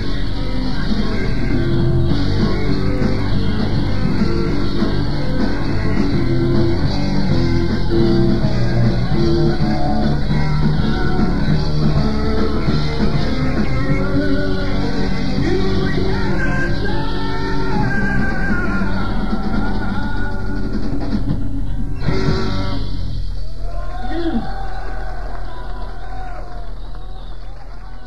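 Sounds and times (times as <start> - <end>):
bass: 0.0 - 28.0
drums: 0.0 - 28.0
electric guitar: 0.0 - 28.0
keyboards: 0.0 - 28.0.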